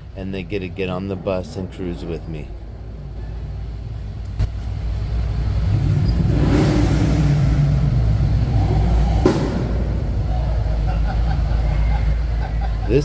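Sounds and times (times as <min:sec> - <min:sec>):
bus engine rumbling: 0:00.0 - 0:13.0.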